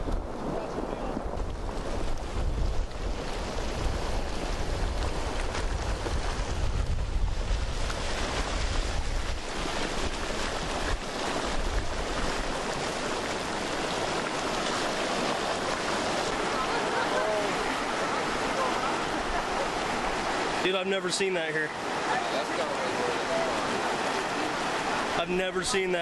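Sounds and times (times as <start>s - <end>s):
floodwater roaring: 0.0s - 26.0s.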